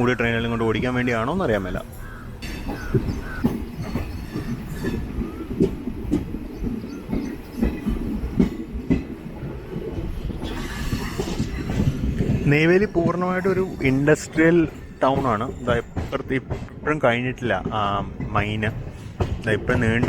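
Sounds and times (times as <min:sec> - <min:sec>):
low train rumble: 0:00.0 - 0:20.0
train wheels knocking on rail joints: 0:01.5 - 0:20.0.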